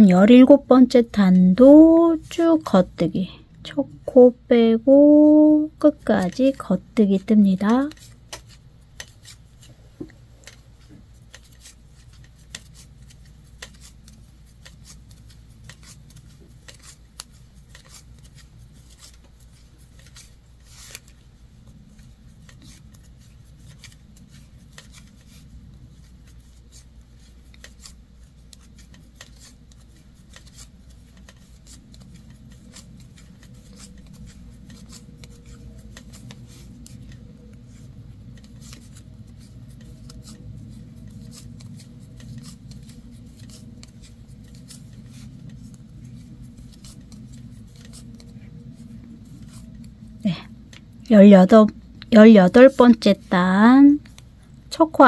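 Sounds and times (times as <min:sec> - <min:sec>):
yarn rubbing: 0:00.0 - 0:03.2, 0:03.8 - 0:55.0
low steady hum: 0:00.0 - 0:55.0.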